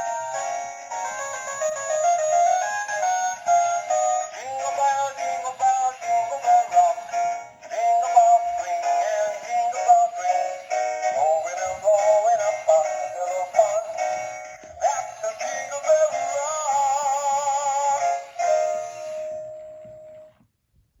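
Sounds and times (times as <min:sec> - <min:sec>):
toy playing song with singing: 0:00.0 - 0:20.2.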